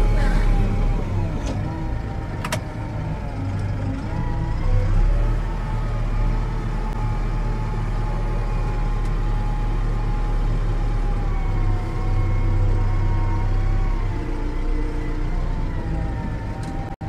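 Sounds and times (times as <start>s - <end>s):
tractor engine droning from cab: 0.0s - 17.0s.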